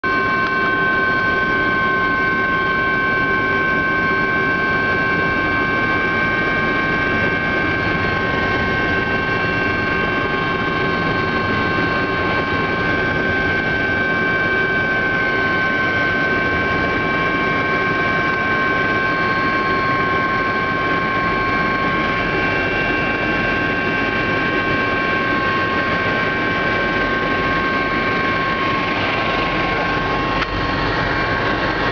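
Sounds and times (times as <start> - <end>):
helicopter engine and rotor noise: 0.0 - 31.9
high-pitched whine: 0.0 - 31.9.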